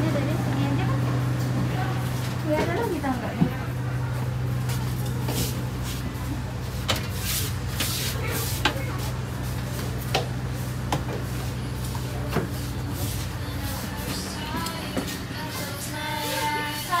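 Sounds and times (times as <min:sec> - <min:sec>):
train low hum: 0:00.0 - 0:17.0.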